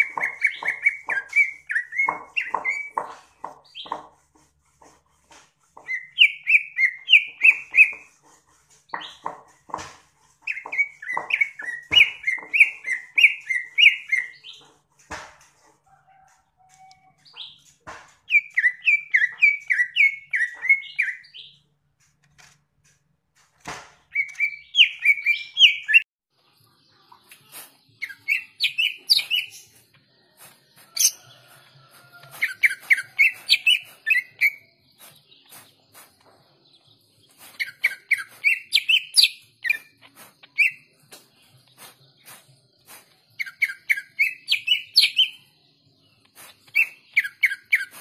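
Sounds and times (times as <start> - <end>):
bird chirping song: 0.0 - 48.0.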